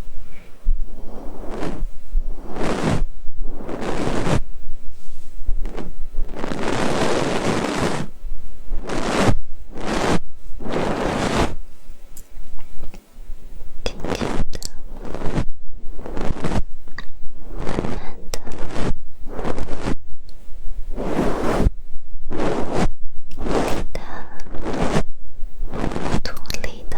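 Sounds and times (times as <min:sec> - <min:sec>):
ear-pick brushing over ear: 0:00.0 - 0:12.0, 0:13.9 - 0:26.9.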